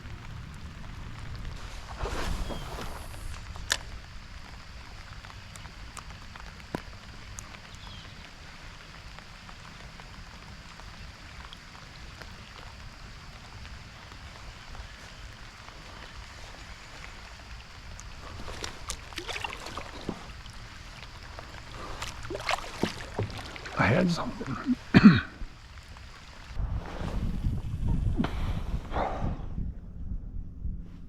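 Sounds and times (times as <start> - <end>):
light rain pattering on water: 0.0 - 26.6.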